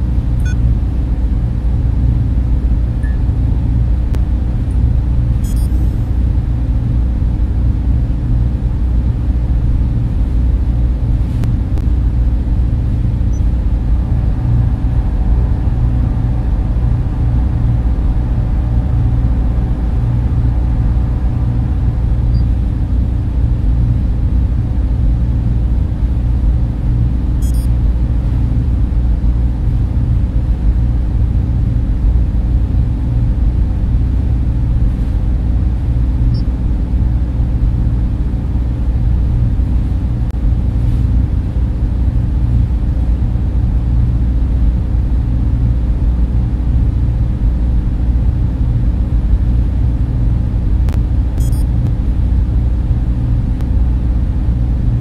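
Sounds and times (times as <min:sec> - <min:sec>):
faint steady hum: 0:00.0 - 0:55.0
server fans rumbling and whirring: 0:00.0 - 0:55.0.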